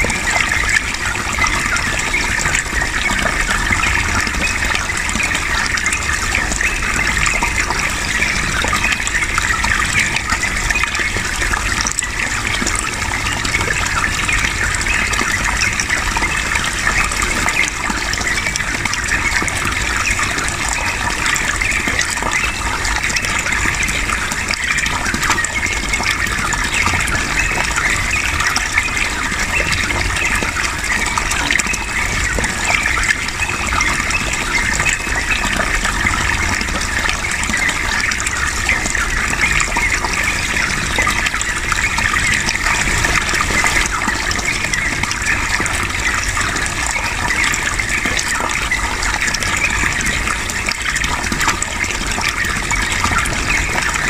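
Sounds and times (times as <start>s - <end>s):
water flowing: 0.0s - 54.0s.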